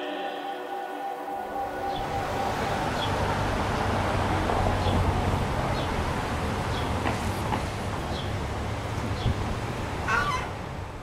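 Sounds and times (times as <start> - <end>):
rumbling outdoor noise: 1.6 - 11.0.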